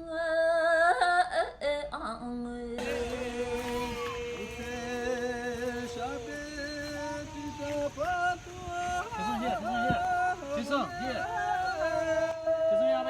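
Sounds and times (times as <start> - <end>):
music with singing: 2.2 - 13.0.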